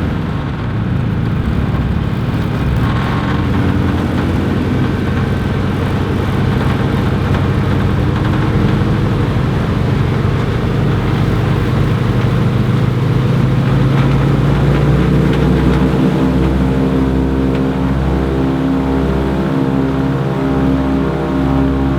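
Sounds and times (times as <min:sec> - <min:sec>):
aircraft piston engines droning: 0:00.0 - 0:21.9.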